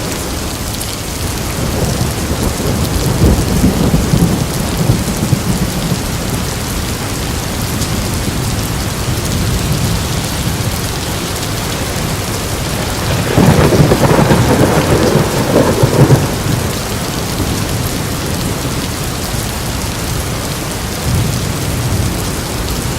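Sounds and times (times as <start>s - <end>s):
heavy rain: 0.0s - 22.9s
thunder rumbling: 0.0s - 22.9s.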